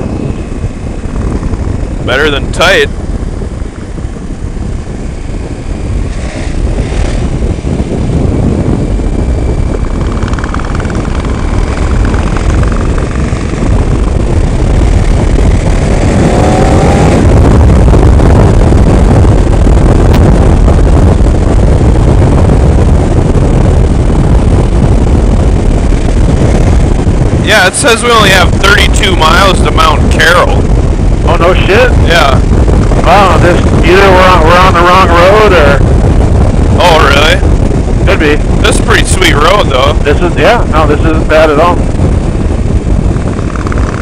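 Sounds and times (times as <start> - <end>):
motorcycle engine running: 0.0 - 44.0
wind rushing over microphone: 0.0 - 44.0.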